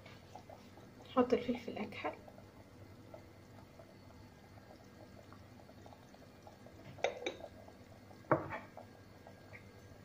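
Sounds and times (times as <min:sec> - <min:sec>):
sauce simmering in a pot: 0:00.0 - 0:10.0.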